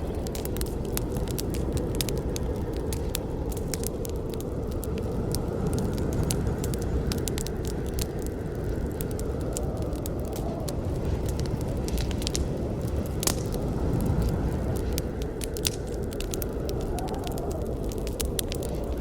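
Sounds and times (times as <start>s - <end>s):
campfire flames rumbling: 0.0s - 19.0s
fire crackles and pops: 0.0s - 19.0s.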